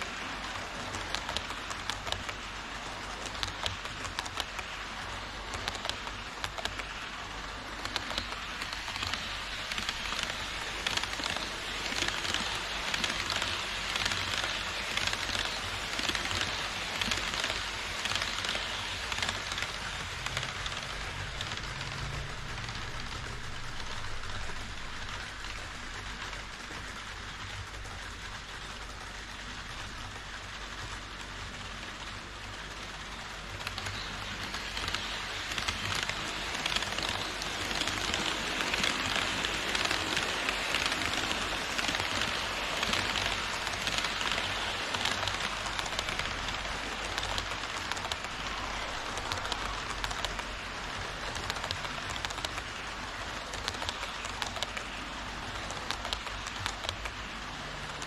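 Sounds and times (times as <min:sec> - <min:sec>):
model train wheels rattling: 0:00.0 - 0:58.0.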